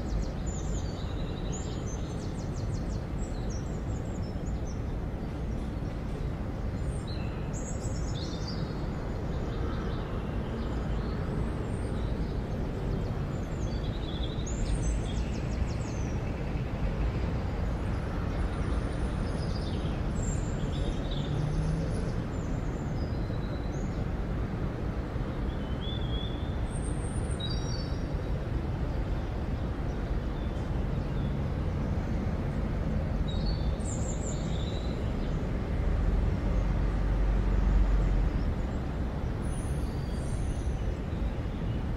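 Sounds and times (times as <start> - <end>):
low rumble of traffic: 0.0 - 41.9.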